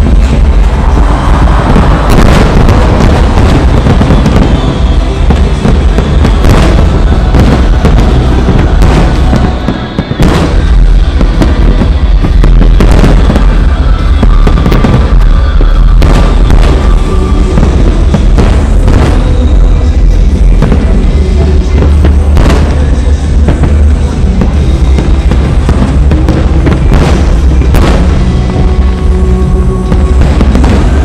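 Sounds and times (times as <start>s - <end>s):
fireworks bangs and booms: 0.0s - 31.0s
low rumble: 0.0s - 31.0s
music playing: 0.0s - 31.0s.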